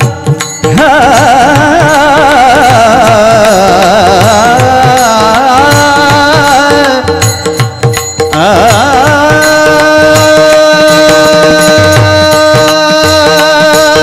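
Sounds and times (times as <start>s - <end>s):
person singing with vibrato: 0.0s - 14.0s
steady drum beat: 0.0s - 14.0s.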